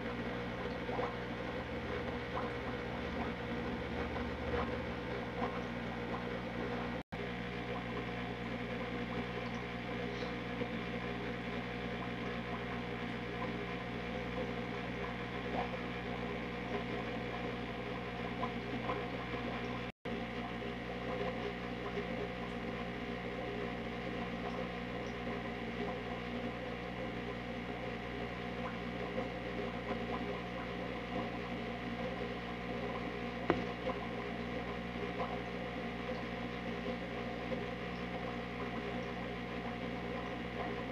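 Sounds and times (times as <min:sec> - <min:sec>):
steady hum of held tones: 0:00.0 - 0:40.9.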